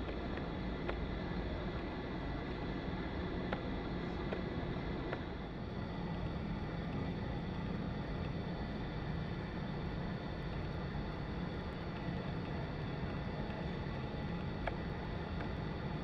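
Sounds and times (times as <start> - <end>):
jet engine high whine: 0.0 - 16.0
jet engines low rumble: 0.0 - 16.0.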